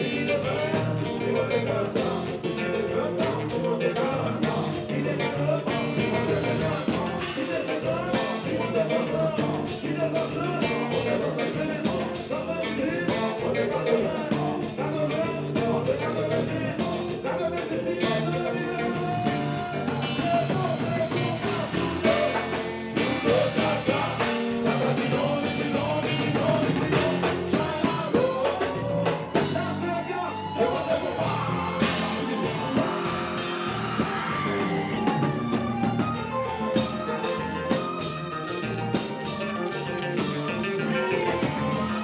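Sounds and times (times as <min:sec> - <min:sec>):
live band playing: 0:00.0 - 0:42.0
man singing: 0:00.0 - 0:42.0.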